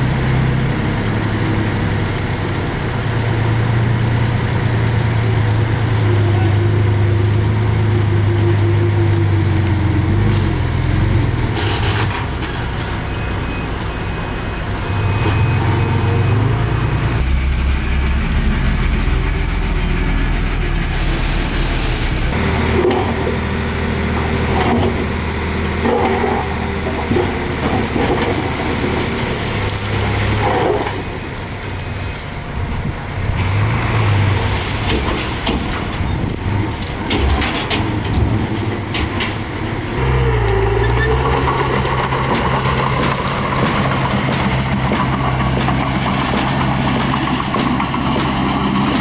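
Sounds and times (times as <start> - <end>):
heavy machinery diesel engine: 0.0 - 49.0.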